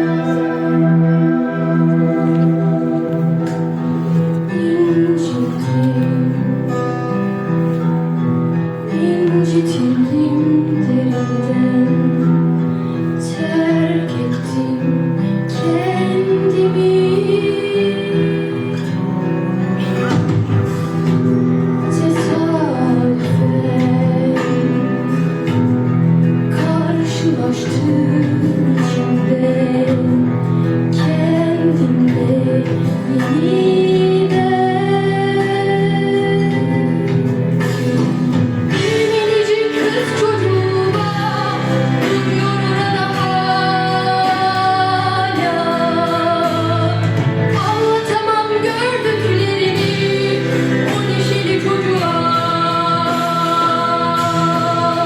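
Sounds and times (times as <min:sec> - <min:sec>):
guitar accompaniment: 0:00.0 - 0:55.0
woman singing: 0:00.0 - 0:55.0.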